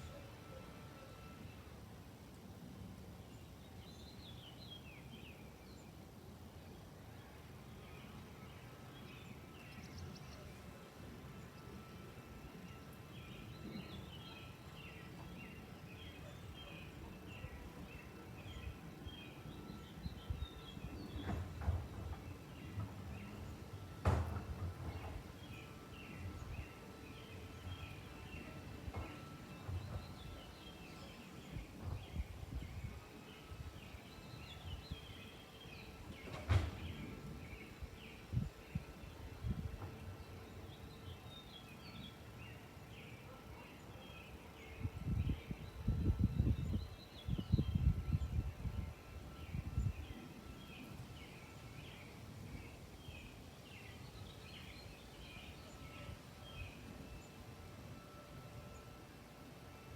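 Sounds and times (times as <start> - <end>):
low outdoor background hum: 0.0 - 59.9.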